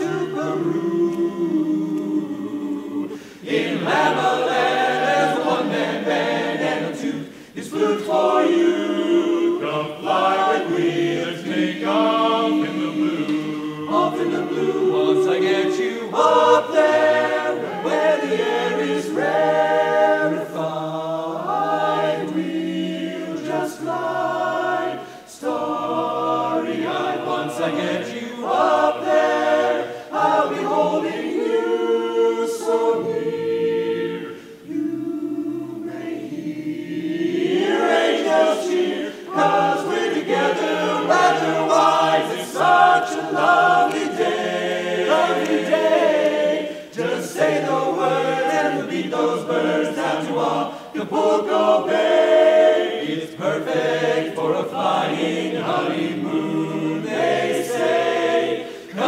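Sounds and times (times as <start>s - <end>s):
men's a cappella ensemble singing: 0.0s - 59.0s.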